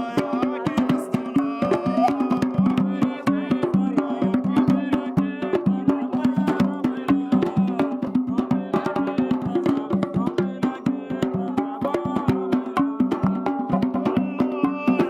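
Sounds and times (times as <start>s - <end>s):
hand drums beaten fast: 0.0s - 15.0s.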